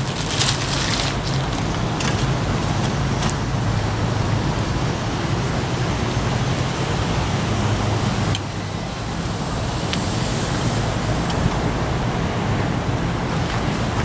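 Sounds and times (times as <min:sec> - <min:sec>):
low engine hum: 0:00.0 - 0:14.0
road traffic noise: 0:00.0 - 0:14.0.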